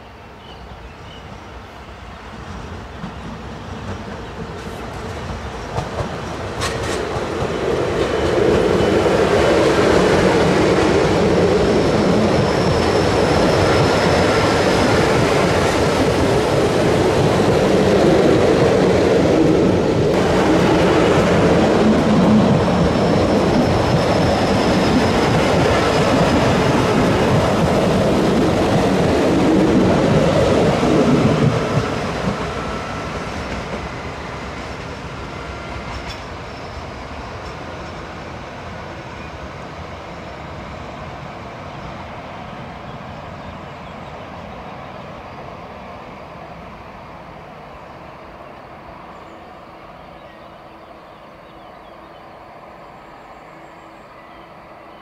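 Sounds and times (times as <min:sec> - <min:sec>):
train wheels rumbling on rails: 0:01.8 - 0:49.4.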